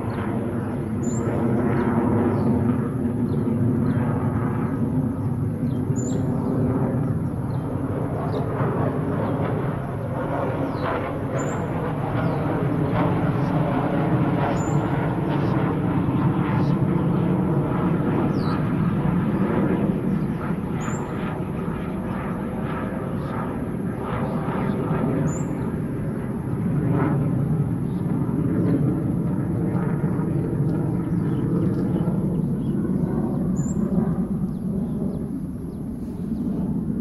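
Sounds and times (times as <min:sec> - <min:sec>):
jet engine roar overhead: 0:00.0 - 0:37.0.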